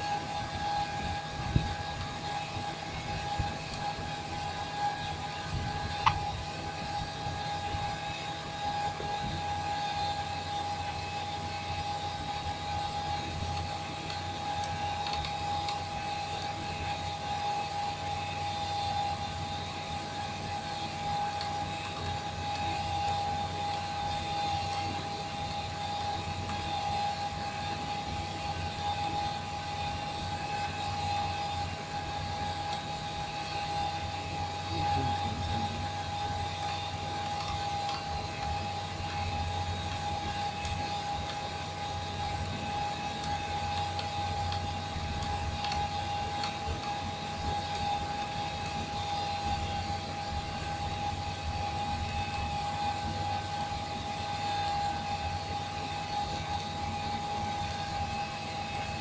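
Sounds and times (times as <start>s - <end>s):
machine hum with high whine: 0.0s - 59.0s.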